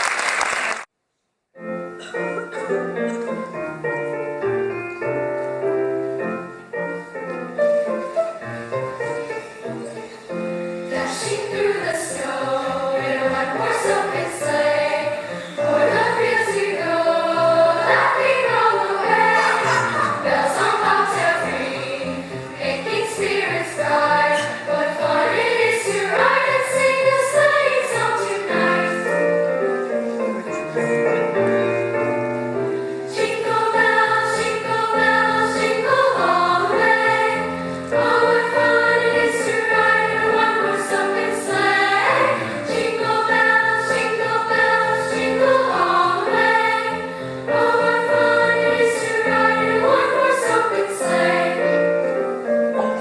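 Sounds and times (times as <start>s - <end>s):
musical accompaniment: 1.6s - 53.0s
choir singing: 4.3s - 53.0s.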